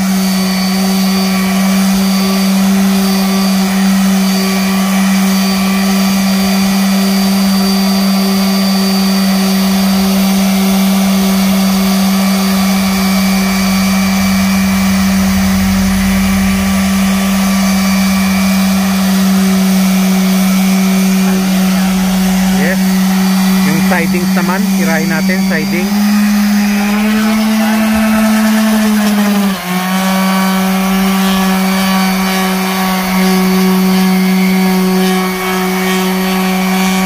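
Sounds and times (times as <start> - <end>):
orbital sander on wood: 0.0 - 37.0.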